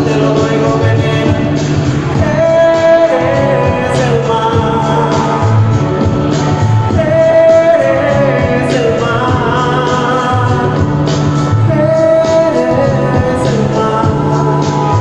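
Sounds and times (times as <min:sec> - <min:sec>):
pop ballad backing track: 0:00.0 - 0:15.0.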